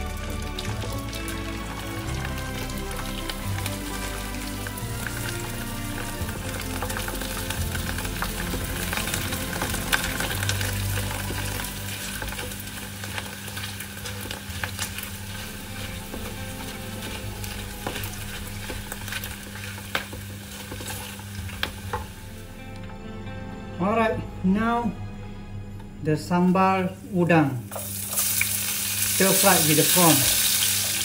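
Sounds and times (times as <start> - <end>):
crackers sizzling in hot oil: 0.0 - 22.6, 27.7 - 31.0.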